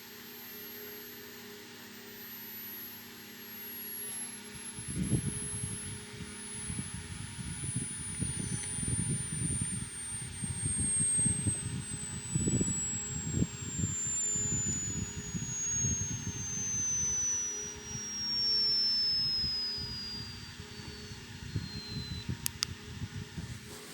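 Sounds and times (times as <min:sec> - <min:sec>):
sine tone sweeping down: 0:00.0 - 0:23.9.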